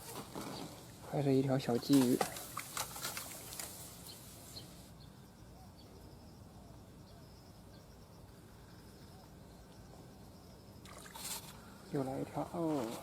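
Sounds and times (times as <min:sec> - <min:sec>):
distant birds chirping: 0:00.0 - 0:12.7
low background hiss: 0:00.0 - 0:13.0.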